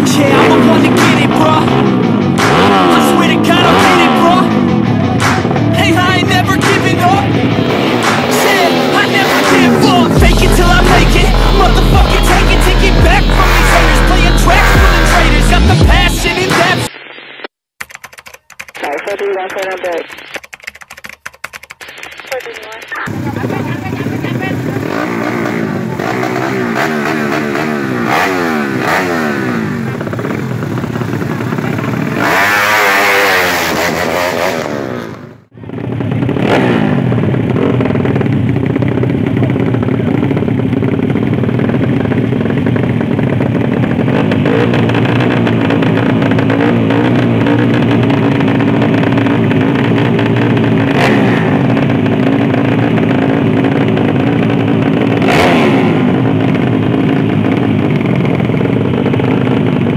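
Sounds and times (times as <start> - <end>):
motorcycle engines revving: 0.0 - 16.9, 22.3 - 59.9.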